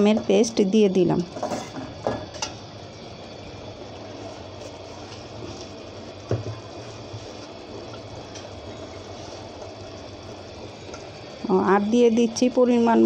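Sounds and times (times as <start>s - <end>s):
pot simmering with bubbling hiss: 0.0s - 13.0s.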